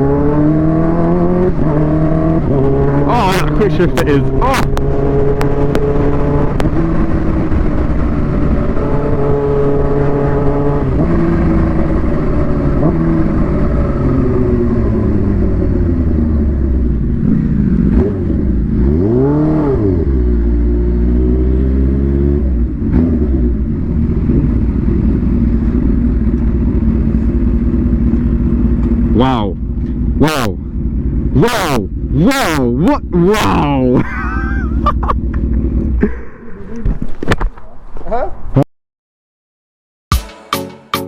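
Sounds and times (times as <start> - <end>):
motorcycle engine running: 0.0 - 37.2.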